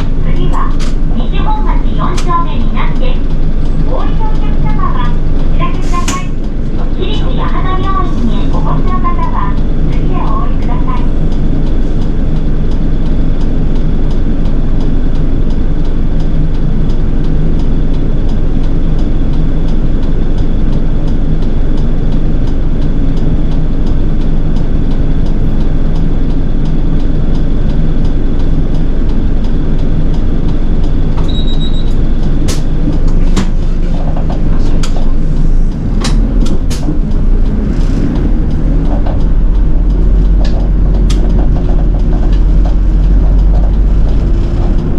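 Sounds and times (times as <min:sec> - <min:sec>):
bus engine and road noise: 0:00.0 - 0:44.9
sharp clicks and rattles: 0:00.0 - 0:44.9.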